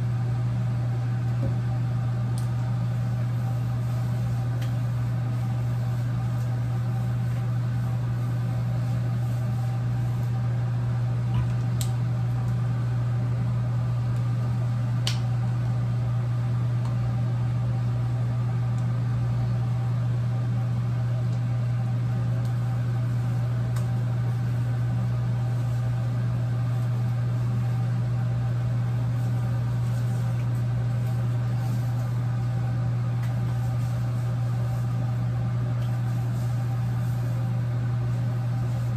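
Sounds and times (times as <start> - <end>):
exhaust fan humming: 0.0 - 38.9.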